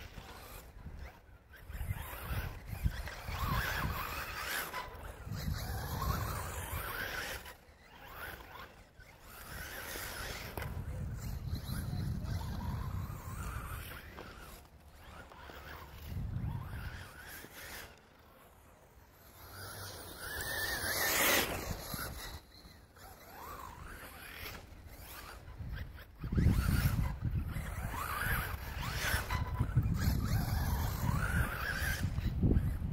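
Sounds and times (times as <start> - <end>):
electric motor whine: 0.0 - 32.9
tyres scrabbling through dirt: 0.0 - 32.9.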